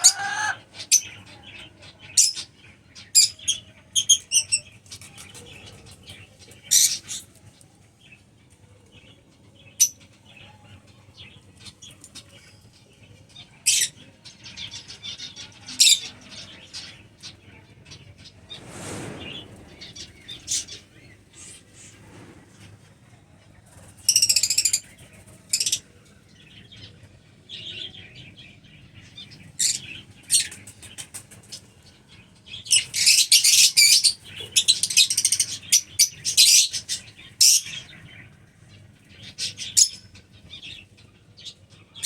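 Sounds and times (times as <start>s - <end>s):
lovebirds chirping and chattering: 0.0s - 42.0s.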